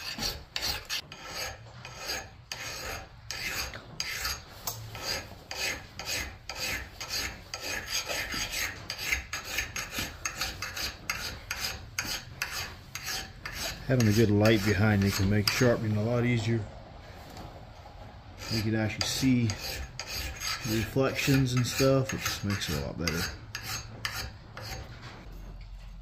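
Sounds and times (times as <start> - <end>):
file scraping axe blade: 0.0 - 16.2, 18.4 - 25.3.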